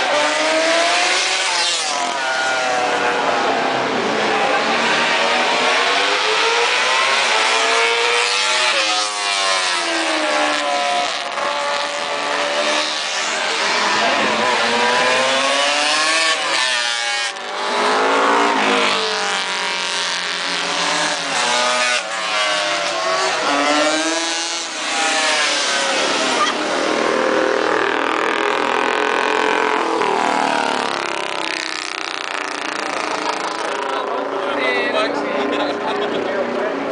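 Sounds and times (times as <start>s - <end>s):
racing motorcycles passing by: 0.0s - 36.9s.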